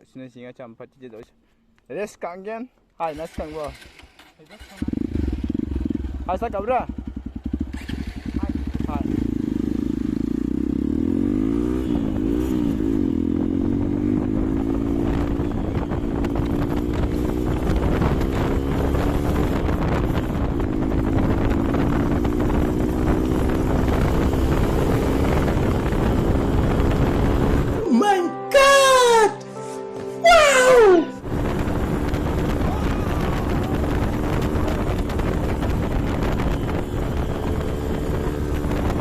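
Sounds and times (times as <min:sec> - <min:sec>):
motorcycle engine revving: 0:03.1 - 0:27.8, 0:31.2 - 0:39.0.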